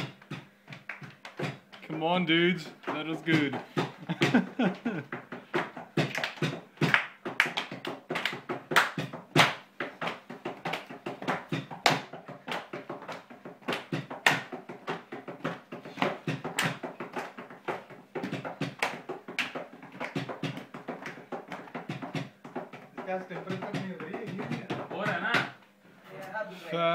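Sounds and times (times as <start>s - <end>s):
claps and taps from dancing: 0.0s - 2.0s, 2.8s - 25.7s.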